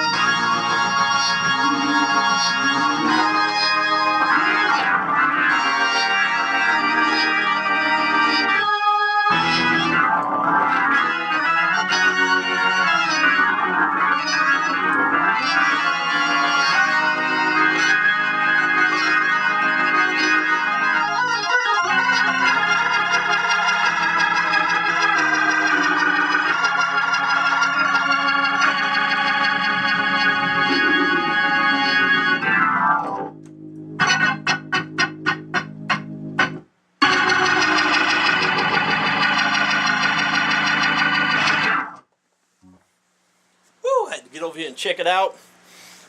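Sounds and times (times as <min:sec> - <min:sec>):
organ playing sustained chords: 0:00.0 - 0:42.0.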